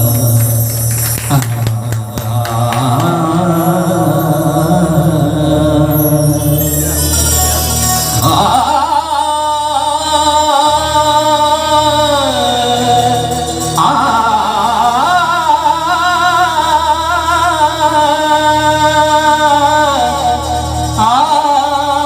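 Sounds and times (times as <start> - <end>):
person singing long wavering notes: 0.0 - 22.0
steady low drone: 0.0 - 22.0.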